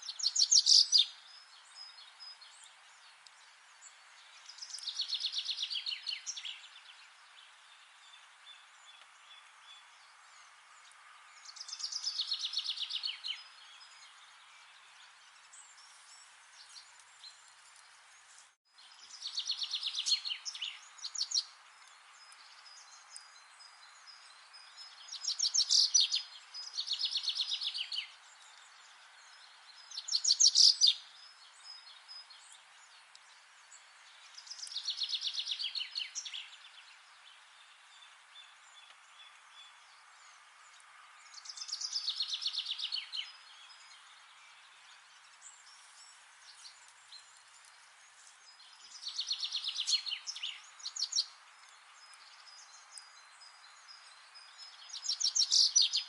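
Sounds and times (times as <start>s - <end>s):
low outdoor background hiss: 0.0s - 56.0s.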